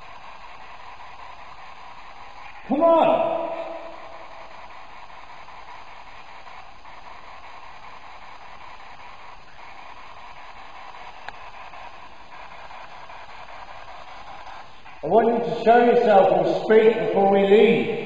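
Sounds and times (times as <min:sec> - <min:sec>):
microphone hiss: 0:00.0 - 0:18.0.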